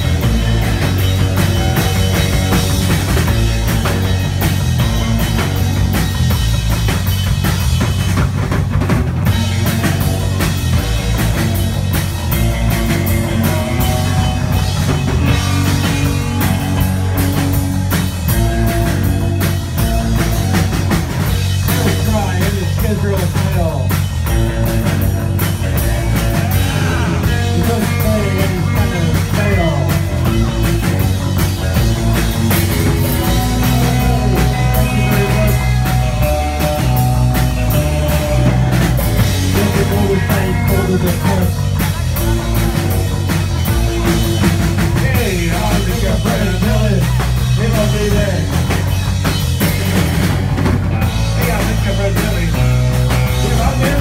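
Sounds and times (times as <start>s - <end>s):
rock band playing: 0.0s - 54.0s
sliding guitar notes: 9.2s - 23.2s, 24.1s - 54.0s.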